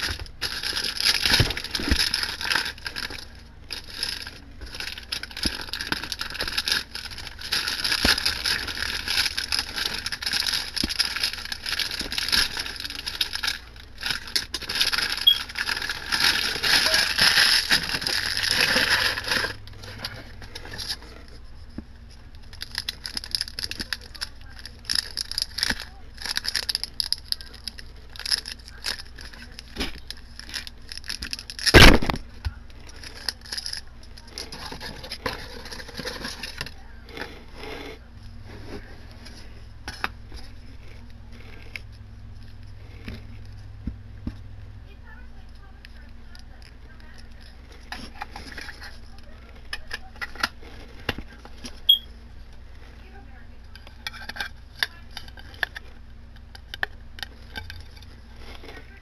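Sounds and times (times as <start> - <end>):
plastic bag crinkling: 0.0 - 43.8, 45.1 - 59.0.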